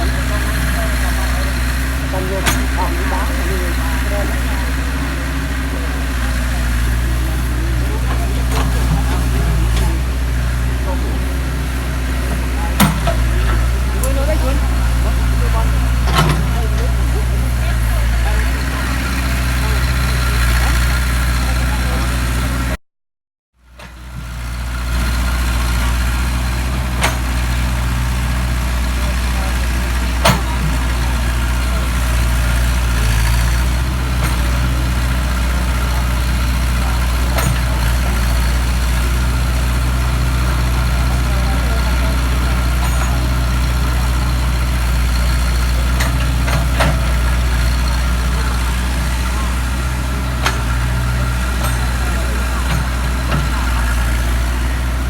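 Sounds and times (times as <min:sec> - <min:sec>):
excavator diesel engine running: 0:00.0 - 0:22.8, 0:23.6 - 0:55.0.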